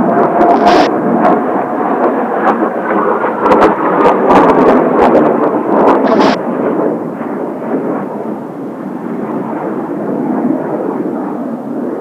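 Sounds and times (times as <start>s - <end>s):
distant jet engines roaring: 0.0s - 12.0s.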